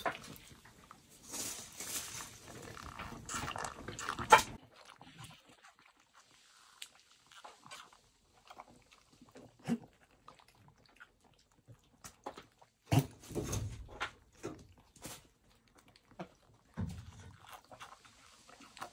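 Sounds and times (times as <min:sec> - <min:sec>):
animals lapping and slurping water: 0:00.0 - 0:18.9.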